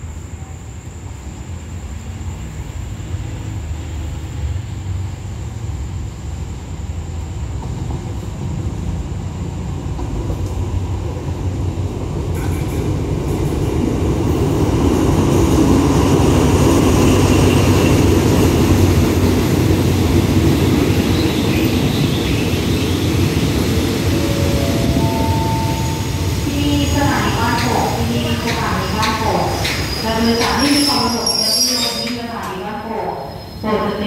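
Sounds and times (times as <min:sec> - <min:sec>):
diesel locomotive engine rumble: 0:00.0 - 0:34.0
train coaches rolling by: 0:06.7 - 0:34.0.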